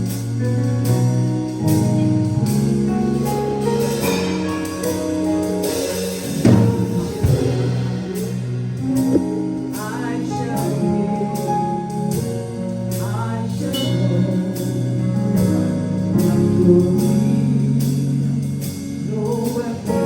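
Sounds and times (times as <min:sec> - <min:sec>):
bass: 0:00.0 - 0:20.0
drum kit: 0:00.0 - 0:20.0
keyboard: 0:00.0 - 0:20.0
gospel singing: 0:01.0 - 0:20.0.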